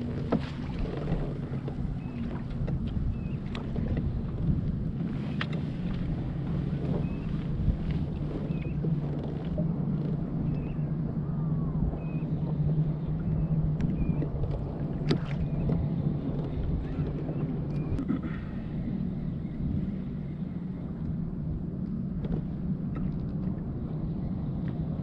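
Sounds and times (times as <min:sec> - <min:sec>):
boat engine droning: 0:00.0 - 0:25.0
wind on microphone: 0:00.0 - 0:25.0.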